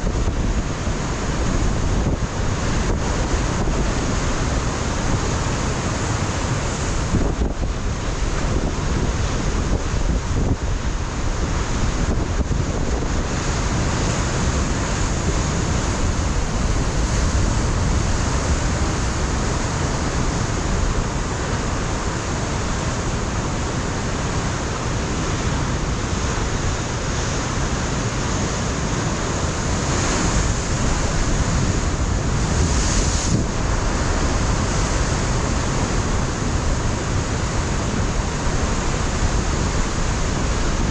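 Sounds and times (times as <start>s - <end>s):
wind buffeting microphone: 0.0s - 40.9s
surf breaking on rocks: 0.1s - 40.9s.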